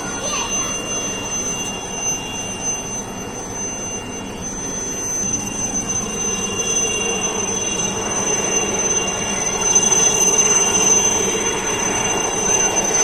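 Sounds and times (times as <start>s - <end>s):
helicopter turbine whine: 0.0s - 13.0s.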